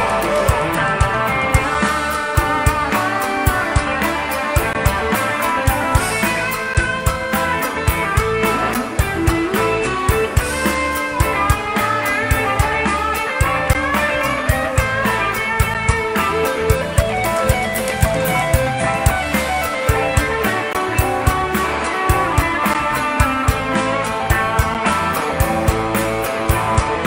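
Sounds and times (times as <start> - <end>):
electric guitar playing: 0.0 - 27.0
steady drum beat: 0.0 - 27.0.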